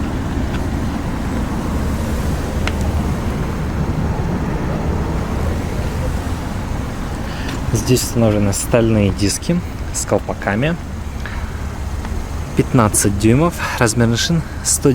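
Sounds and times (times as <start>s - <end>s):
road traffic rumble: 0.0s - 14.9s.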